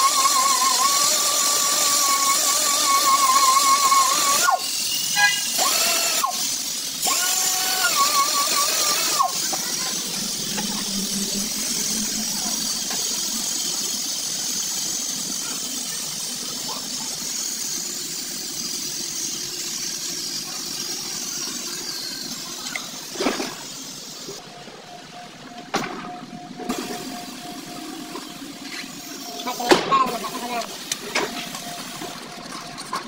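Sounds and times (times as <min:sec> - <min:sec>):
steady air hiss: 0:00.0 - 0:24.4, 0:26.7 - 0:32.3
pneumatic buffer whining: 0:00.0 - 0:33.0.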